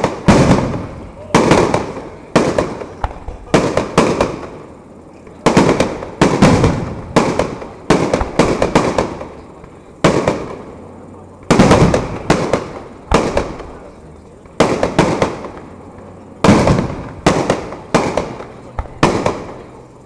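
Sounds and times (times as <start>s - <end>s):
crackling rumble: 0.0s - 20.0s
fireworks bangs: 0.0s - 20.0s.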